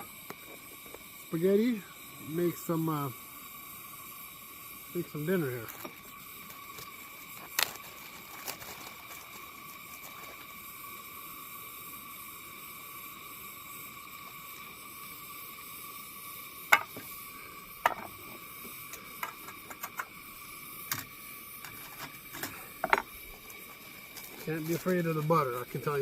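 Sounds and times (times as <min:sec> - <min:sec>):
camp stove hissing: 0:00.0 - 0:26.0.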